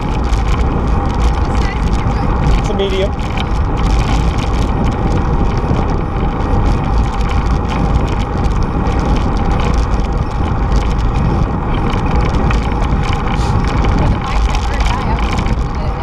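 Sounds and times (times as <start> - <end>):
tyre and road noise: 0.0 - 16.0
wind rumble on microphone: 0.0 - 16.0.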